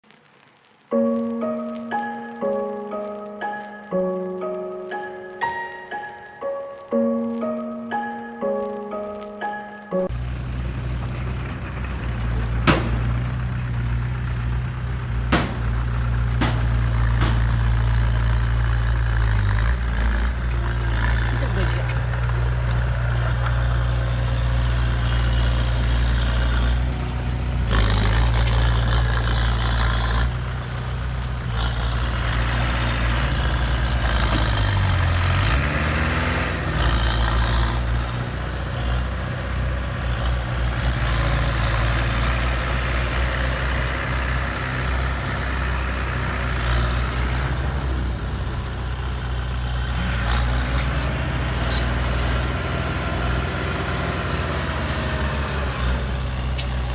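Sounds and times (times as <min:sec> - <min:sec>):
truck engine running: 0:10.0 - 0:56.9.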